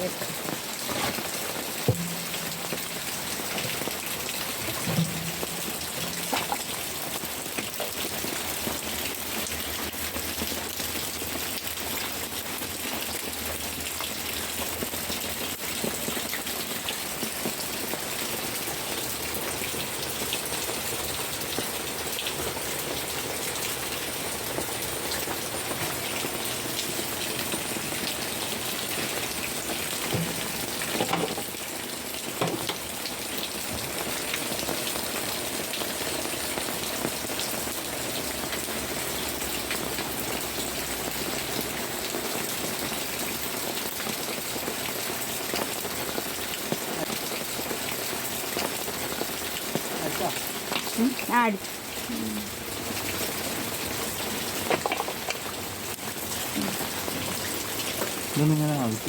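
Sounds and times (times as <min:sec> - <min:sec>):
raindrops tapping: 0:00.0 - 0:51.6, 0:52.8 - 0:59.0
steady rain hiss: 0:00.0 - 0:59.0.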